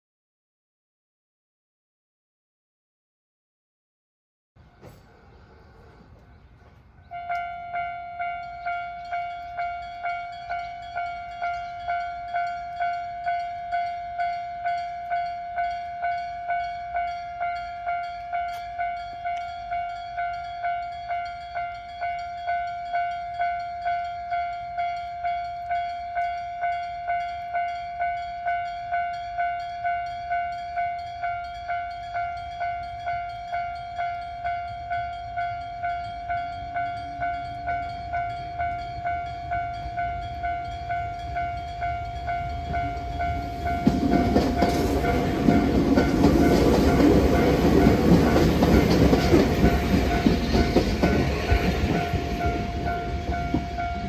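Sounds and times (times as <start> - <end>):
train rumbling over crossing: 4.6 - 54.0
level crossing warning bell: 7.0 - 54.0.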